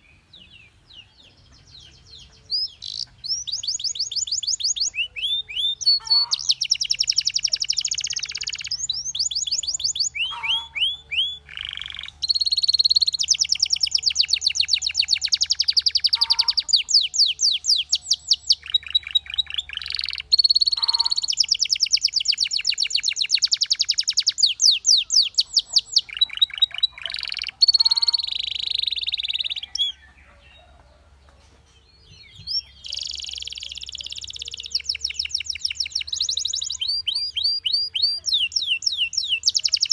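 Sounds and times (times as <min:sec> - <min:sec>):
canary singing trills: 0:00.0 - 0:31.0, 0:31.9 - 0:39.9.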